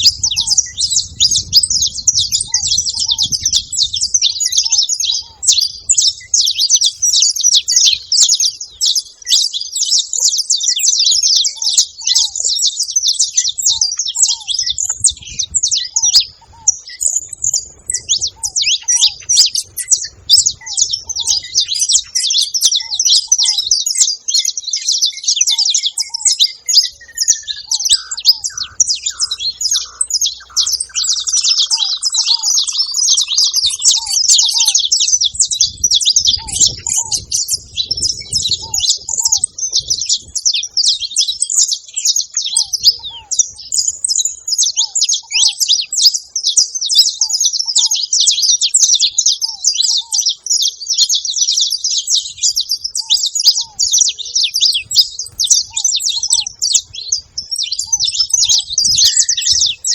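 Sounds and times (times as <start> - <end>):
finches chirping: 0.0 - 59.9.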